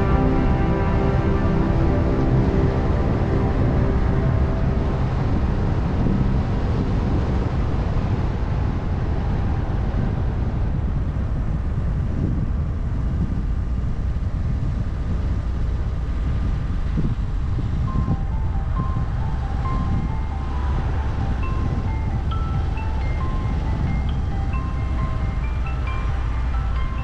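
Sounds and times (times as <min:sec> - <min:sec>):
car driving on road: 0:00.0 - 0:27.0.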